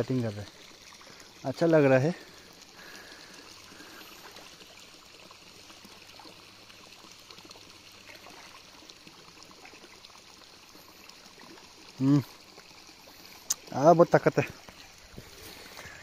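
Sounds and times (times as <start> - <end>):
trickling water: 0.0 - 16.0.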